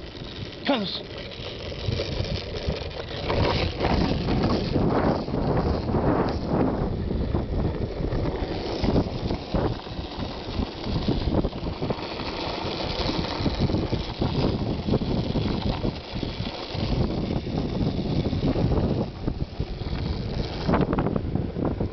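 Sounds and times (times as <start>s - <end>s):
rumble of motion: 0.0s - 21.9s
wind buffeting microphone: 1.4s - 21.9s.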